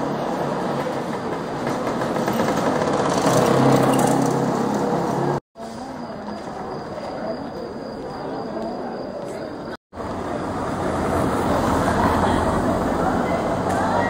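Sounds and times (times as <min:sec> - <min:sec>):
street ambience: 0:00.0 - 0:14.0.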